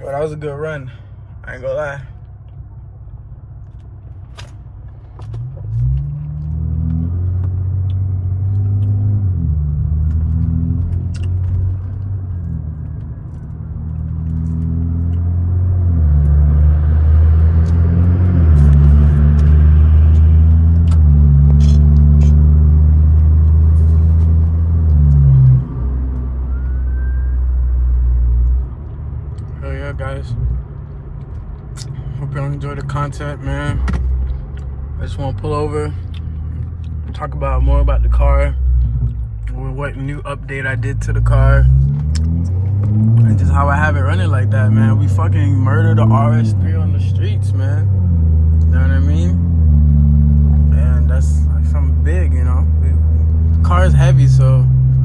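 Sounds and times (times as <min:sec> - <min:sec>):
car engine changing gears: 0:01.6 - 0:55.0.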